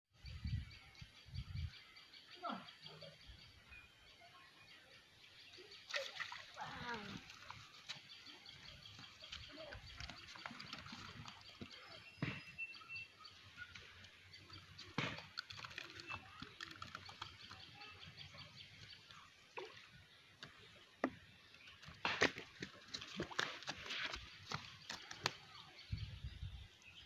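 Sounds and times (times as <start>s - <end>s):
small birds chirping: 0.1s - 27.0s.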